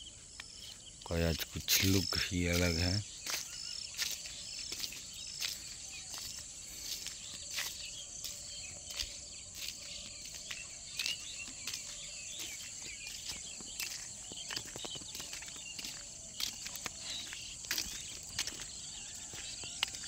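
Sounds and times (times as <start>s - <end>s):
insect chirring: 0.0s - 19.9s.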